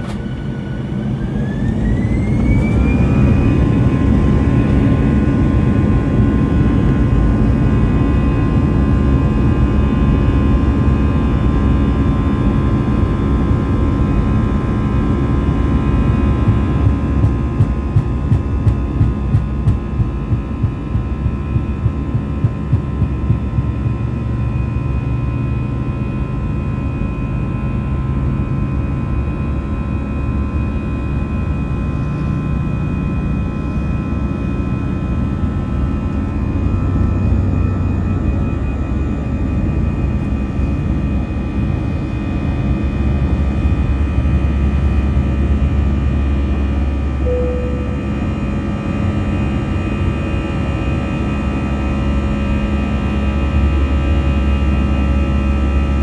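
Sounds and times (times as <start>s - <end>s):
jet engines rumbling with fan whine: 0.0s - 56.0s.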